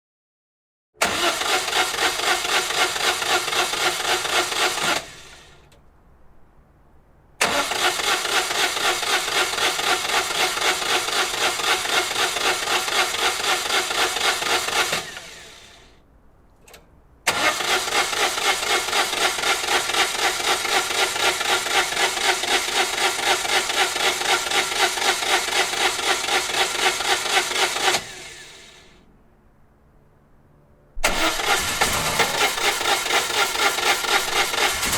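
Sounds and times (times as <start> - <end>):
engine cranking by starter motor: 1.0 - 5.8, 7.4 - 16.0, 16.7 - 29.0, 31.0 - 34.9.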